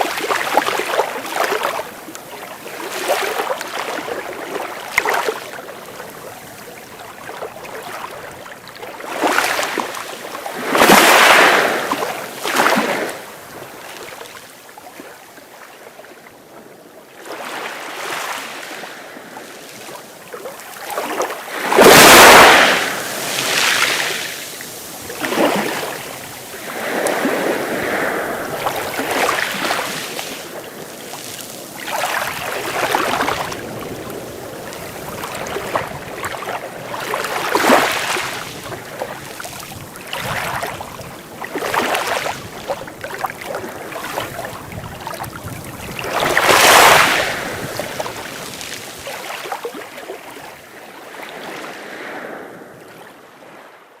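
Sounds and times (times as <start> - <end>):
sea waves breaking: 0.0 - 15.6, 17.2 - 53.8.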